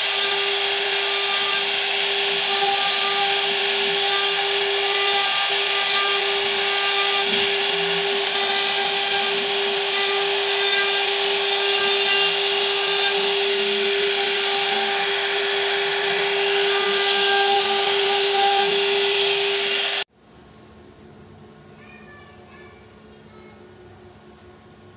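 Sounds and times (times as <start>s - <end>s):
router spindle whining: 0.0s - 20.1s.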